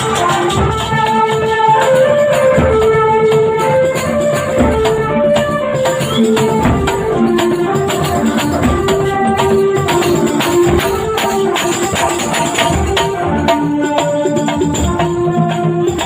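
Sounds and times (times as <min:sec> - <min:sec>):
drum strokes: 0:00.0 - 0:16.0
folk music melody of held notes: 0:00.0 - 0:16.0
jingling percussion: 0:00.0 - 0:16.0.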